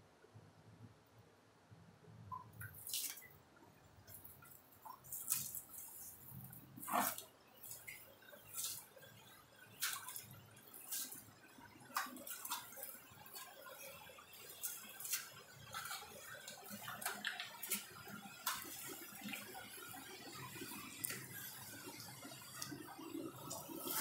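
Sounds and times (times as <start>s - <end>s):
water dripping in cave: 2.3s - 24.0s.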